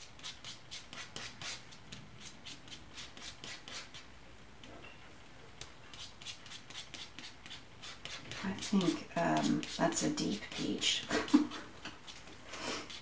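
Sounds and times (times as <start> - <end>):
palette knife scraping paint: 0.1 - 4.0, 5.9 - 12.2, 12.8 - 13.0.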